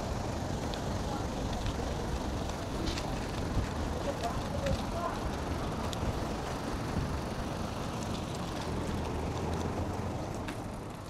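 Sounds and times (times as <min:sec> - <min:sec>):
bike rolling noise: 0:00.0 - 0:11.0.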